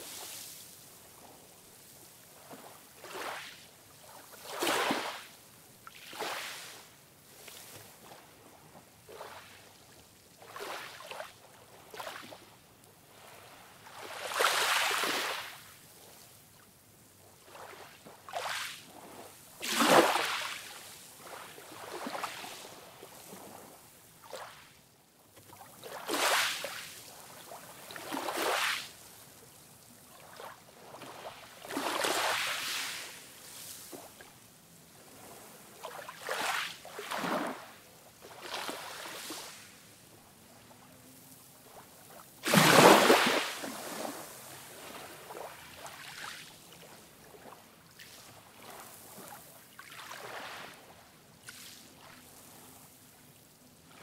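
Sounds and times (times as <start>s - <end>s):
waves washing up a beach: 0.0s - 54.0s.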